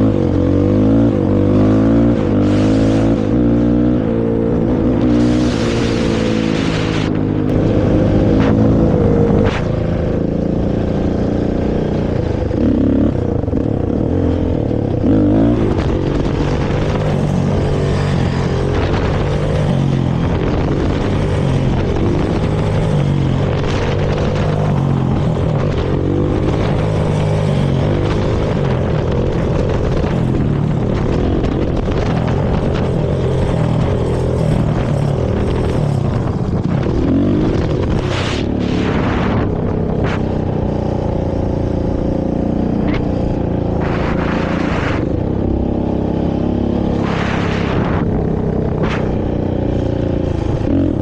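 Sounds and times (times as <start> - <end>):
quad engine revving: 0.0 - 51.0.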